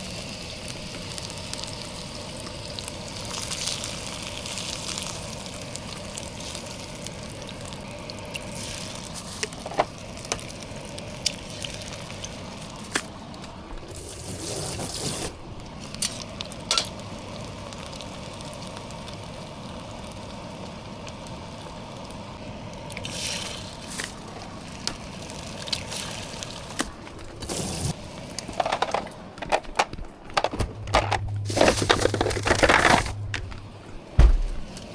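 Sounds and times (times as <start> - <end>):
food sizzling and bubbling in pot: 0.0 - 29.8, 30.8 - 34.9.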